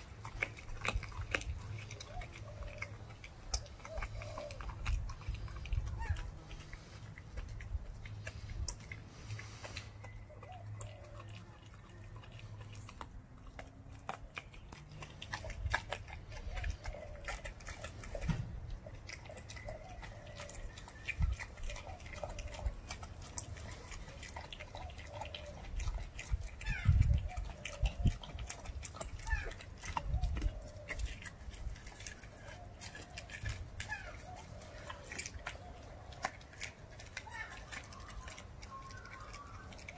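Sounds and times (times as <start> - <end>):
puppy chewing bones crunching: 0.0 - 39.9.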